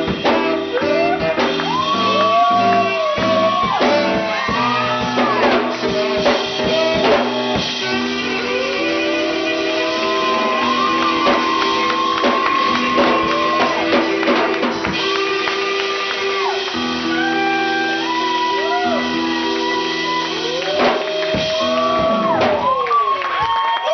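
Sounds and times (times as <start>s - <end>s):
band music with drums: 0.0s - 23.0s.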